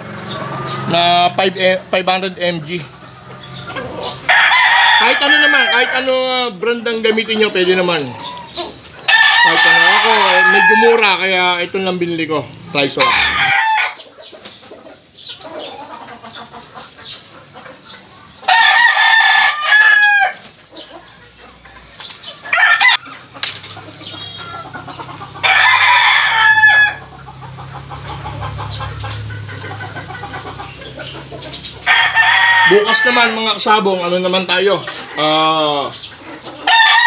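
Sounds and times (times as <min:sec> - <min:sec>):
roosters crowing: 0:00.0 - 0:37.0.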